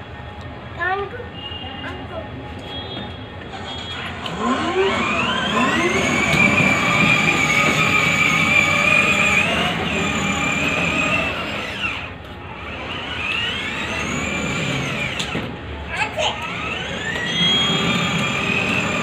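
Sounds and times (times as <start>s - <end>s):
toy car motors whining: 3.6s - 19.0s.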